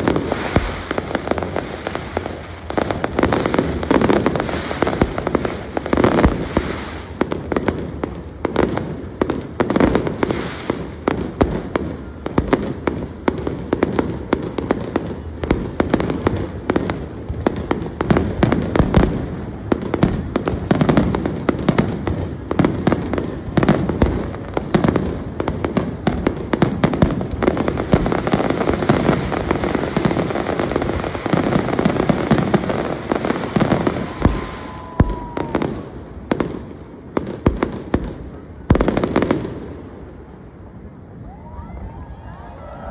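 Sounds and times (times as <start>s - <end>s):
fireworks bangs and crackling: 0.0s - 41.2s.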